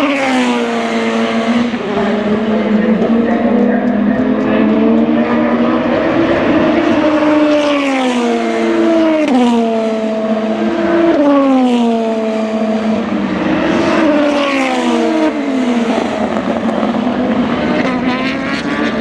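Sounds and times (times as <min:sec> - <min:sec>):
race car engine changing gear: 0:00.1 - 0:19.0.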